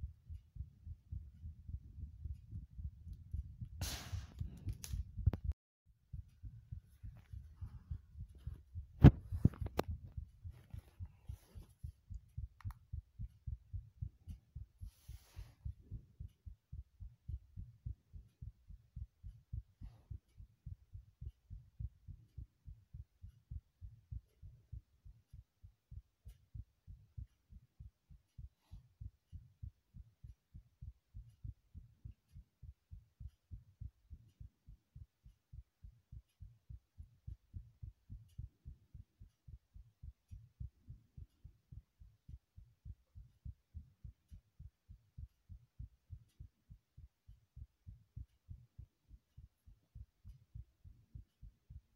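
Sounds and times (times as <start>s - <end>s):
heartbeat thuds: 0.0s - 51.9s.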